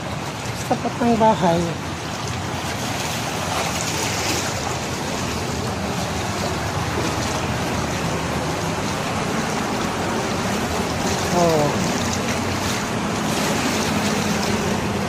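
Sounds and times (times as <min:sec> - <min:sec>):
floodwater rushing and sloshing: 0:00.0 - 0:15.0.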